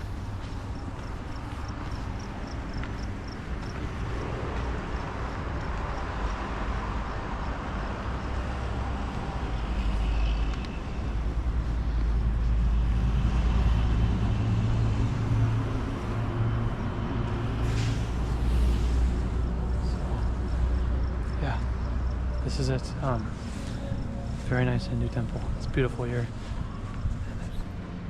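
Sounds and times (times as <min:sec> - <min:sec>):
traffic rumble: 0:00.0 - 0:28.0
vehicle engine hum: 0:00.0 - 0:28.0.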